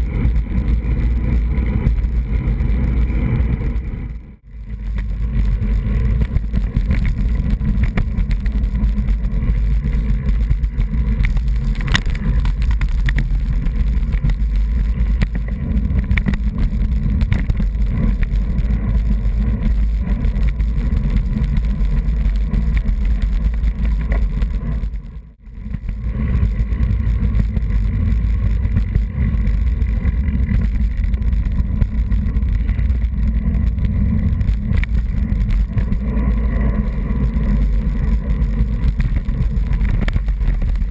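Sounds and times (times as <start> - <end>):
tyre and road rumble: 0.0 - 40.9
wind buffeting microphone: 0.0 - 40.9.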